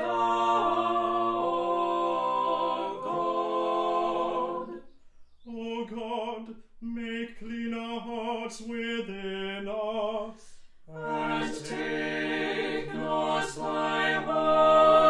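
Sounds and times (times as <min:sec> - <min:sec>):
a cappella ensemble singing: 0:00.0 - 0:15.0.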